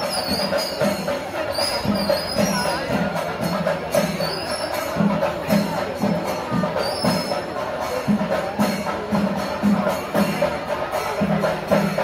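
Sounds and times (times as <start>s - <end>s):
cymbals clashing: 0.0s - 12.0s
drums beating an even rhythm: 0.0s - 12.0s.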